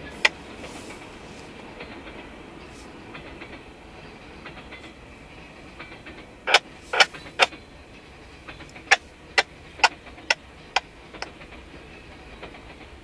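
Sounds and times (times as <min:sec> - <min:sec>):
train wheels clicking over rail joints: 0:00.0 - 0:13.0.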